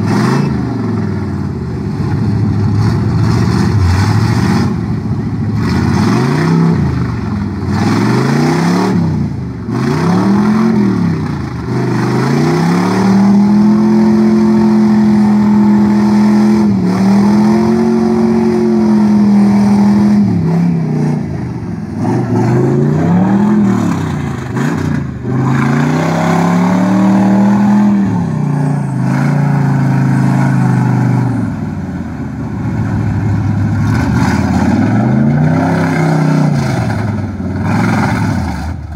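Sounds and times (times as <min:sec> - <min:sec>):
truck engine revving: 0:00.0 - 0:38.9
tyres churning through mud: 0:00.0 - 0:38.9.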